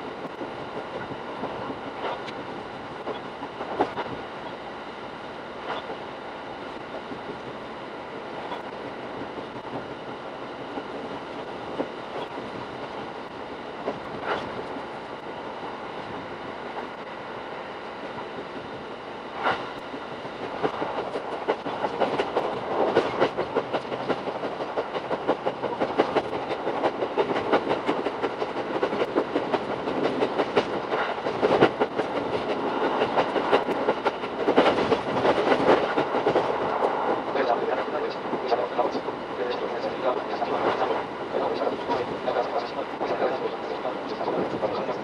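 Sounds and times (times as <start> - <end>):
rail clatter: 0.0 - 4.7, 5.4 - 17.2, 17.8 - 45.0
train running noise: 0.0 - 45.0.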